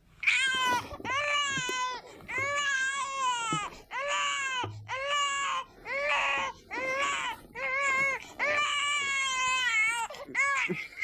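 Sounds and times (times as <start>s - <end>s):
high-pitched crying wails: 0.2s - 11.0s.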